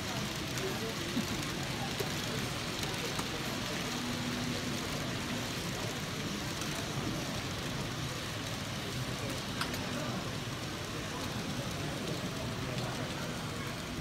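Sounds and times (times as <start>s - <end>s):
distant crowd chatter: 0.0s - 14.0s.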